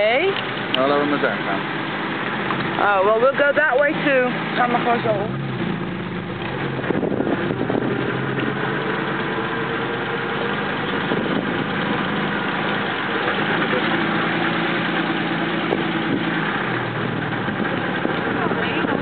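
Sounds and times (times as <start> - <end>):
car engine running near idle: 0.0 - 19.0.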